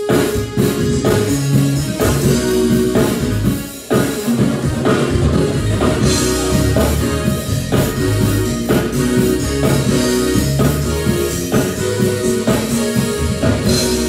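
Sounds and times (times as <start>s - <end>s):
organ chords: 0.0s - 14.0s.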